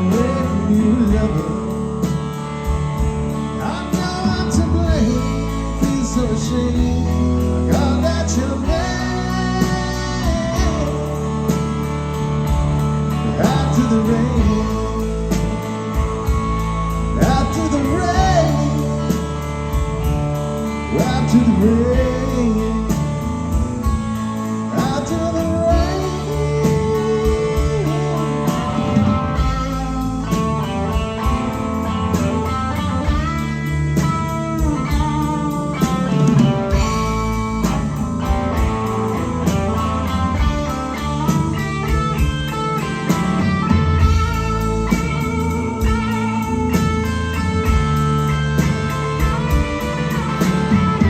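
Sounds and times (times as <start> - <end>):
bass guitar: 0.0 - 51.0
drums: 0.0 - 51.0
lead guitar with bending notes: 0.0 - 51.0
rhythm guitar: 0.0 - 51.0.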